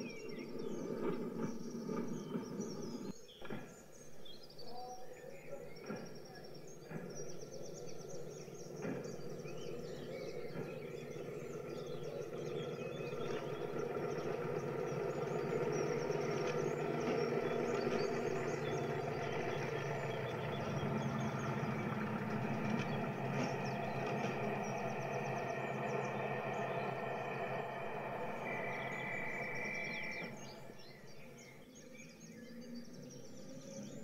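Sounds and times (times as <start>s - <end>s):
locomotive engine running: 0.0s - 3.7s, 5.6s - 31.6s.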